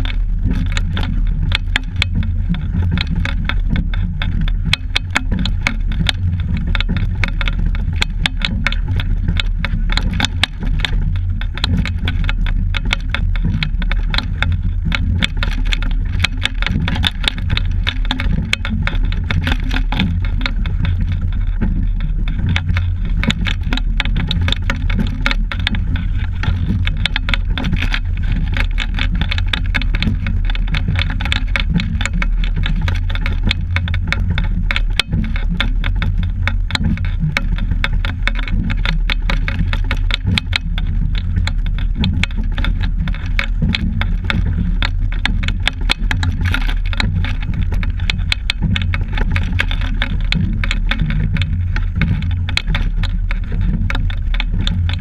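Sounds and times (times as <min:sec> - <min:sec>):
boat rattling and clicking: 0:00.0 - 0:55.0
steady low rumble: 0:00.0 - 0:55.0.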